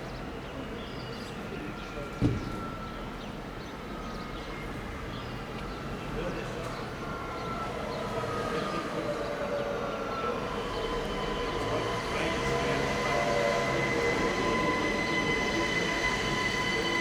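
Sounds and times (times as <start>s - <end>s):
high-pitched squeal of wheels: 0.1s - 17.0s
train running: 1.7s - 17.0s.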